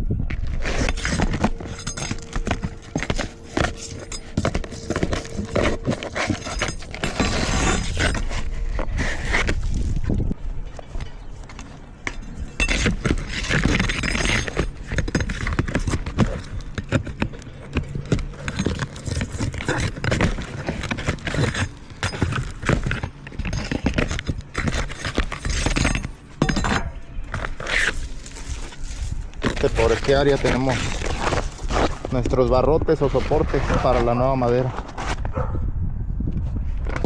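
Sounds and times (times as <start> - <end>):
wood being pried and broken: 0.3 - 10.3, 11.4 - 32.3
scraping and clattering: 0.3 - 32.4.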